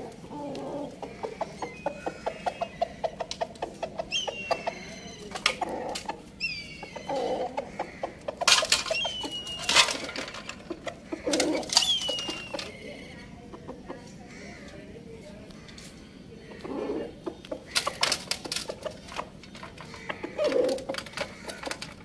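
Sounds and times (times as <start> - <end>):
chickens scuffling: 0.0 - 14.8, 15.5 - 22.0
chickens calling: 0.0 - 22.0.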